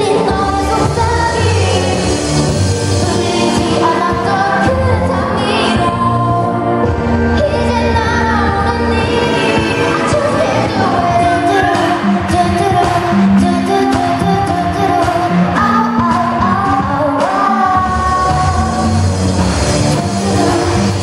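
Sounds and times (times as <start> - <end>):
pop song with vocals: 0.0 - 21.0.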